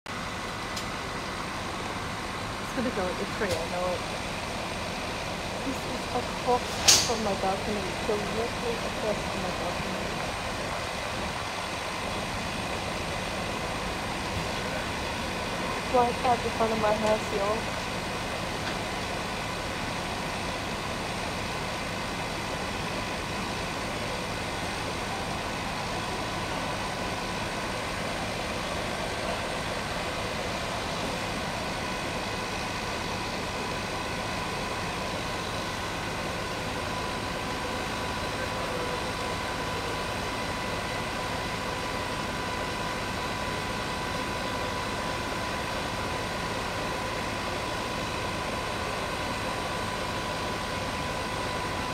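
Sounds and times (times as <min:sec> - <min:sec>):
truck engines droning: 0:00.1 - 0:51.9.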